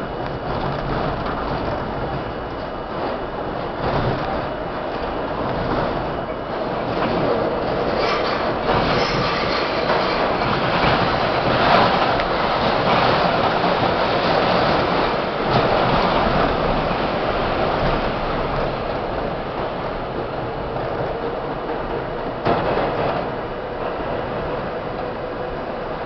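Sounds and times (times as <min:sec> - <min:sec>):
subway wheels rumbling on rail: 0:00.0 - 0:26.0.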